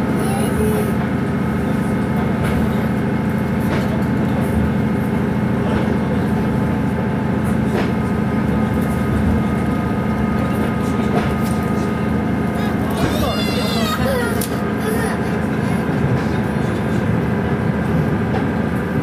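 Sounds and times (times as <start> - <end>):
diesel railcar engine drone: 0.0 - 19.0.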